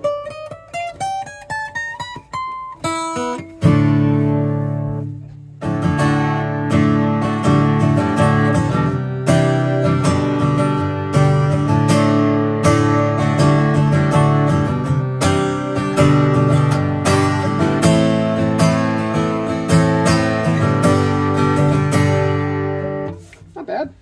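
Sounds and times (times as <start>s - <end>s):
acoustic guitar picking and strumming: 0.0s - 23.9s.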